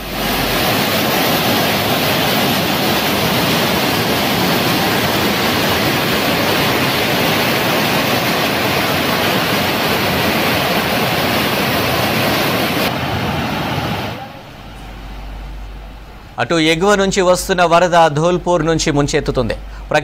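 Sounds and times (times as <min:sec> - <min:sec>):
floodwater rushing: 0:00.0 - 0:16.2.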